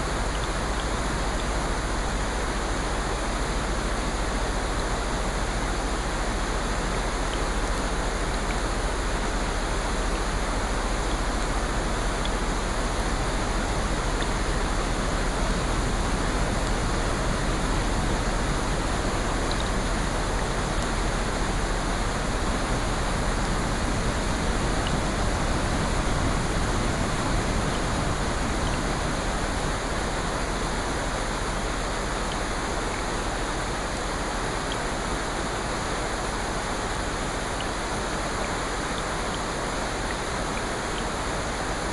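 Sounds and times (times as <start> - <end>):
faint ticks of raindrops: 0.0 - 41.9
rushing rain: 0.0 - 41.9.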